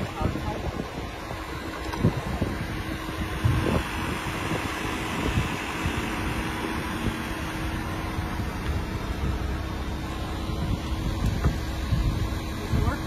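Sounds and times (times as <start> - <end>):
steady machine hum: 0.0 - 13.0
wind on microphone: 0.0 - 13.0.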